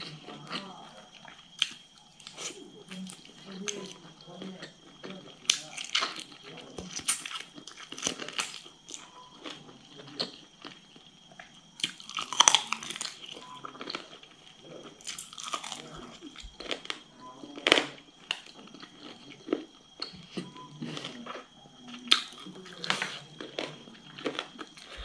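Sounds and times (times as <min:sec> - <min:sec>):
chewing and mouth smacking: 0:00.0 - 0:17.0, 0:17.6 - 0:25.0.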